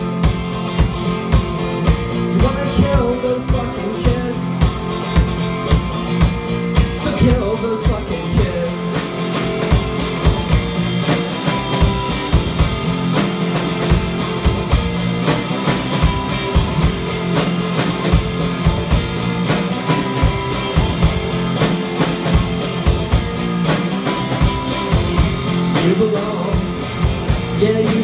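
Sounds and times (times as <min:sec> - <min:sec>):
drum kit beat: 0:00.0 - 0:28.0
electric guitar: 0:00.0 - 0:28.0.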